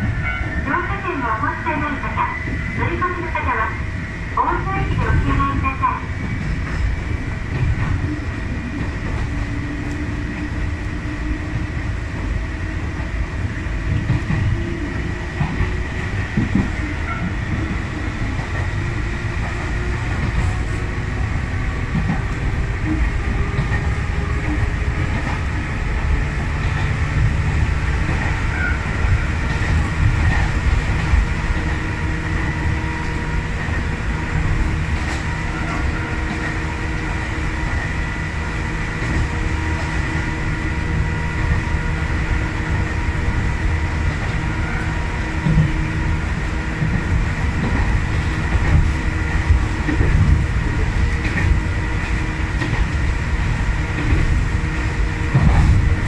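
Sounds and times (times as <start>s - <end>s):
rumble of wheels on rails: 0.0s - 56.0s.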